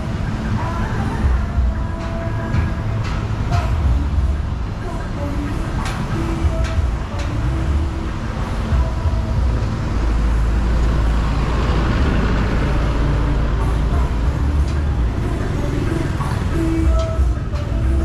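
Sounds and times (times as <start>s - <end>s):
deep engine rumble: 0.0s - 18.0s
road traffic passing: 0.0s - 18.0s.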